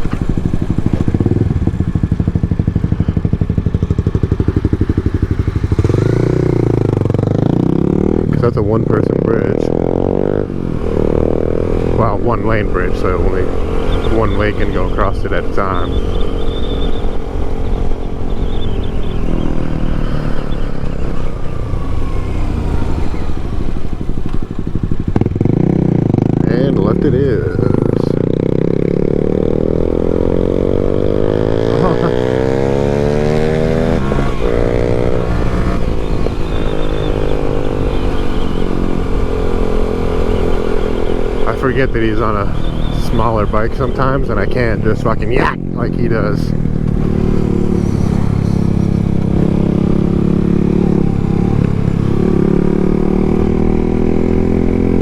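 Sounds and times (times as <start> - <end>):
motorcycle engine running at low revs: 0.0 - 55.0.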